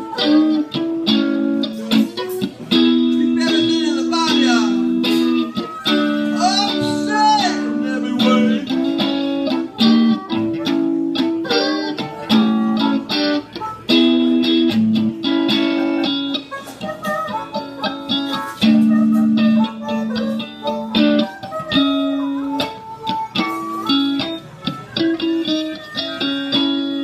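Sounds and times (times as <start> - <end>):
electric guitar: 0.0 - 27.0
harmonica bending notes: 0.0 - 27.0.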